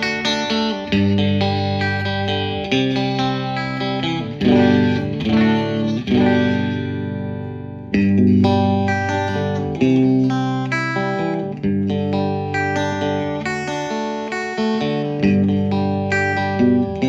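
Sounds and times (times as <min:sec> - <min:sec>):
electric guitar strummed chords: 0:00.0 - 0:17.0.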